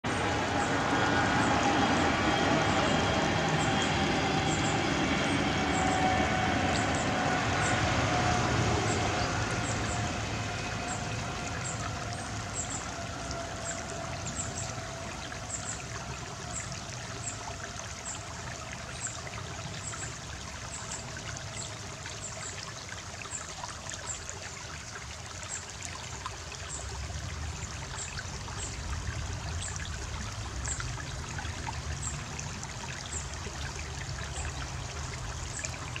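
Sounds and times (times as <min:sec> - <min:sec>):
stream water trickling: 0:00.0 - 0:36.0.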